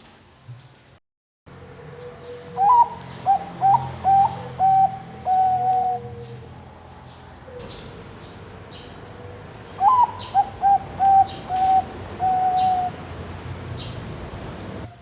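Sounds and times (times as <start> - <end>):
dove cooing: 1.6 - 15.0.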